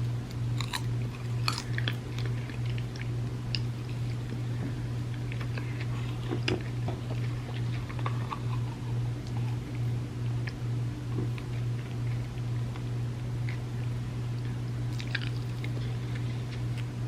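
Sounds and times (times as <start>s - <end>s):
close chewing: 0.0s - 10.6s, 11.2s - 17.0s
steady low hum: 0.0s - 17.0s.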